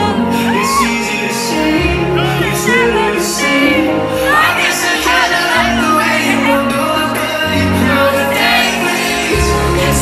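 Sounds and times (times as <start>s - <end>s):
live pop music: 0.0s - 10.0s
person singing: 0.0s - 10.0s
heavy bass: 1.6s - 10.0s.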